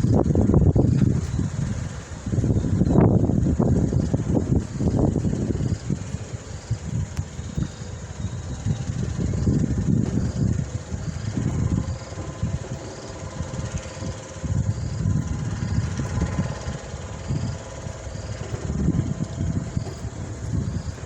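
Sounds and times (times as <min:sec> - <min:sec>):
faint steady hum: 0:00.0 - 0:21.0
wind buffeting microphone: 0:00.0 - 0:21.0.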